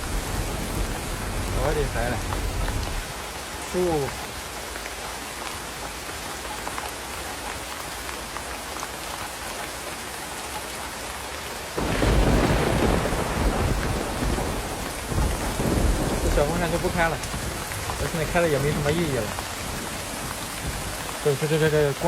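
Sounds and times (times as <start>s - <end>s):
heavy rain drumming on tarp roof: 0.0s - 22.0s.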